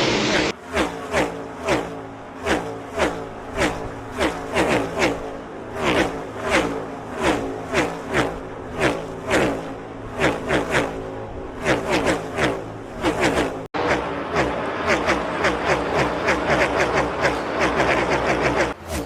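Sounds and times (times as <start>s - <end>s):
race car engines passing at full throttle: 0.0s - 19.0s.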